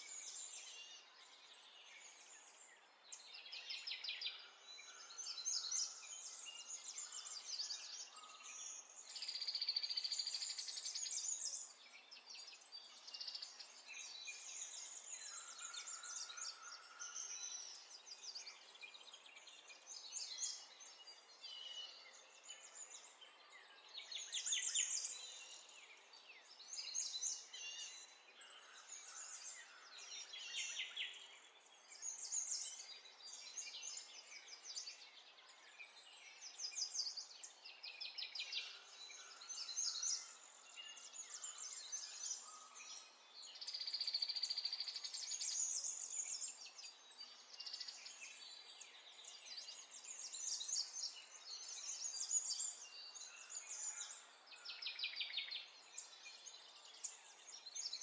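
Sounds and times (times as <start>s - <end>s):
birds chirping and trilling: 0.1s - 58.0s.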